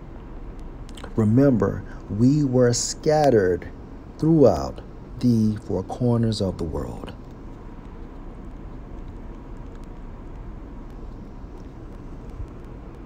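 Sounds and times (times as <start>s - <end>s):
faint hum: 0.0s - 13.0s
low background rumble: 0.0s - 13.0s.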